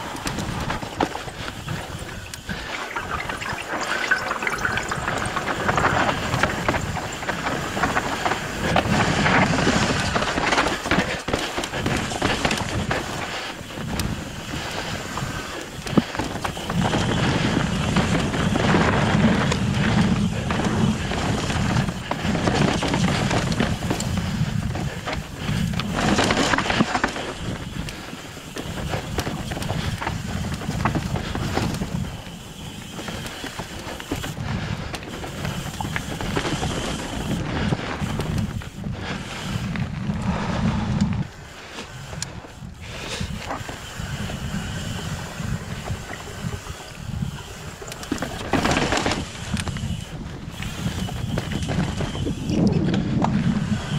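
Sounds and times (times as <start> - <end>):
bike rattling over bumps: 0.0 - 53.9
bike tyres on rock and dirt: 0.0 - 53.9.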